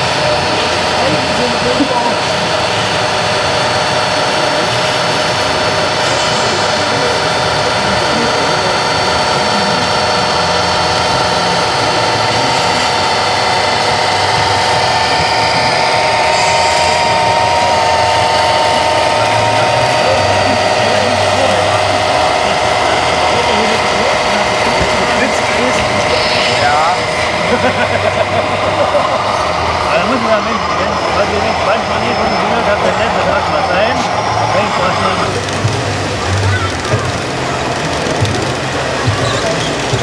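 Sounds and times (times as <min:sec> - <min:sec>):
toy truck electric motor whine: 0:00.0 - 0:40.0.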